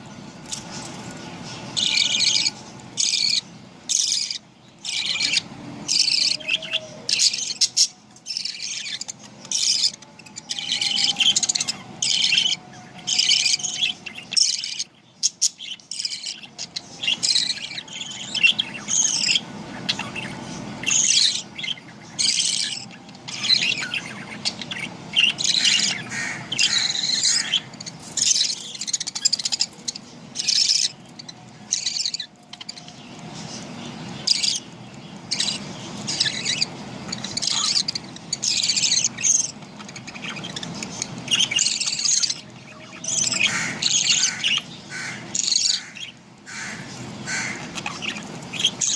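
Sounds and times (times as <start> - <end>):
budgerigars chirping: 0.4 - 48.9.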